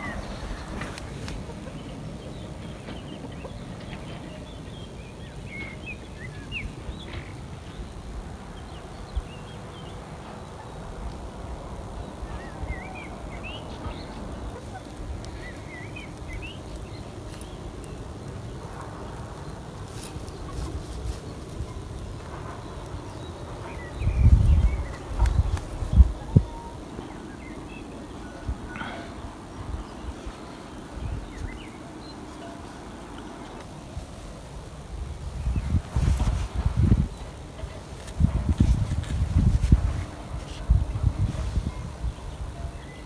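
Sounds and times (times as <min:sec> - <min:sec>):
birds chirping: 0:00.0 - 0:43.0
low background noise: 0:00.0 - 0:43.0.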